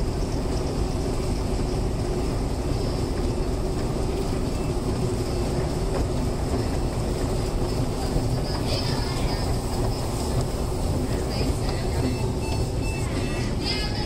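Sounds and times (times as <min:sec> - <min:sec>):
escalator rumbling and humming: 0:00.0 - 0:14.0.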